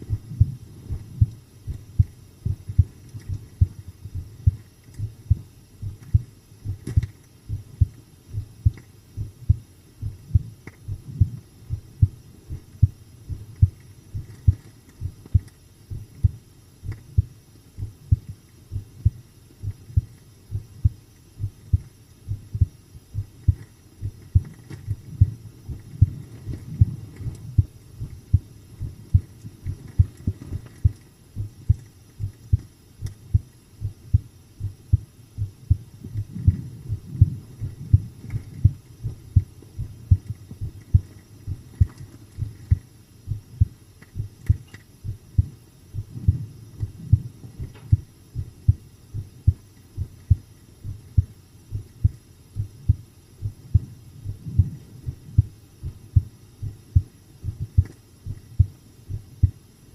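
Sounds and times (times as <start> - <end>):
heartbeat thumps: 0.0 - 59.7.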